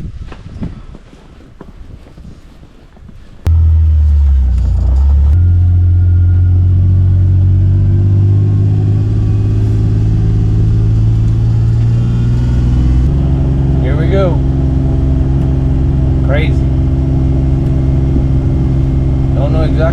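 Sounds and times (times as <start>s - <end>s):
vehicle engine humming: 1.2s - 19.9s.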